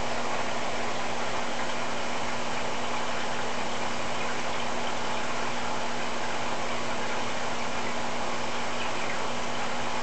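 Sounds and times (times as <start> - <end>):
aquarium pump humming: 0.0 - 10.0.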